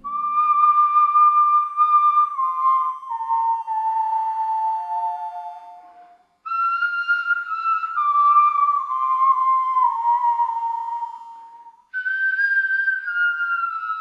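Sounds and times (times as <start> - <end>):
bone flute playing held notes: 0.0 - 14.0.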